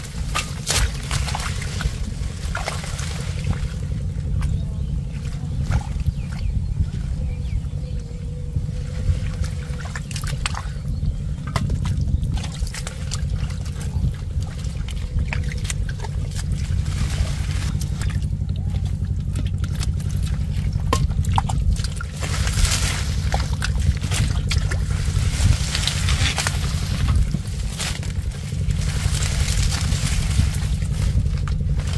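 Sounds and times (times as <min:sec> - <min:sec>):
steady low rumble: 0:00.0 - 0:31.9
water splashing and sloshing: 0:00.0 - 0:31.9.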